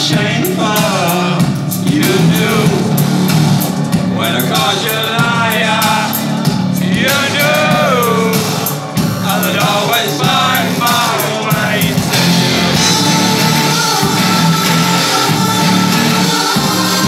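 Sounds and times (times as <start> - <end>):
man singing: 0.0 - 3.1, 3.9 - 17.0
rock band playing: 0.0 - 17.0.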